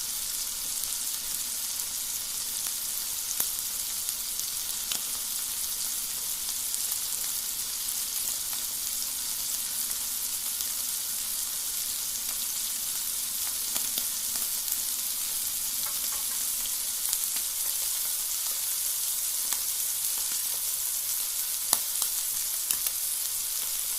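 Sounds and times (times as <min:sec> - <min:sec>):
onion sizzling: 0:00.0 - 0:23.9.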